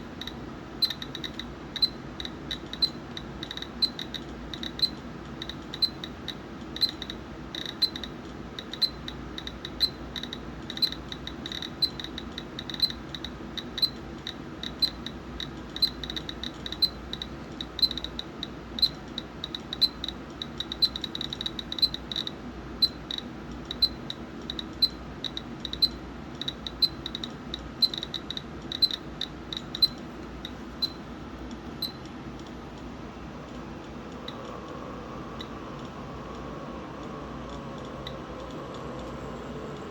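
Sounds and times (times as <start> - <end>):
geiger counter clicking: 0.0 - 39.9.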